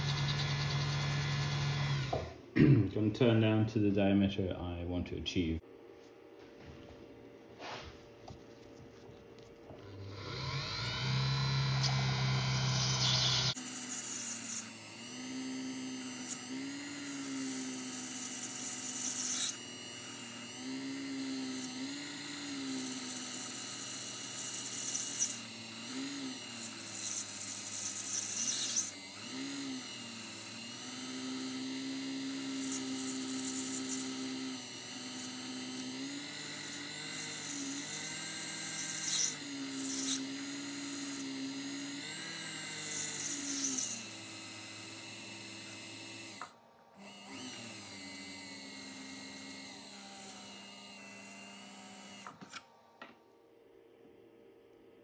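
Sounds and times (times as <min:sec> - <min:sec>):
small lathe motor whining: 0:00.0 - 0:02.4, 0:09.7 - 0:53.9.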